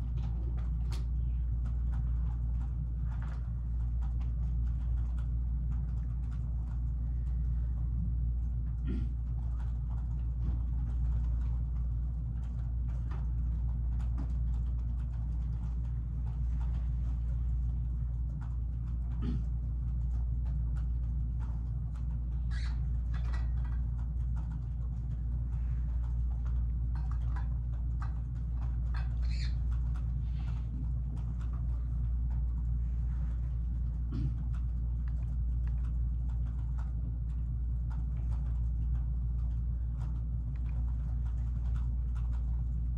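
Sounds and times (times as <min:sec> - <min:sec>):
faint clicks and rustles: 0:00.0 - 0:42.9
low room hum: 0:00.0 - 0:42.9.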